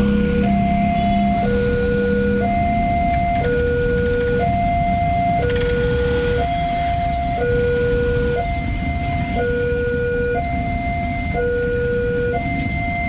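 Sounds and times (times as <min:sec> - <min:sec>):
level crossing alarm alternating tones: 0:00.0 - 0:13.0.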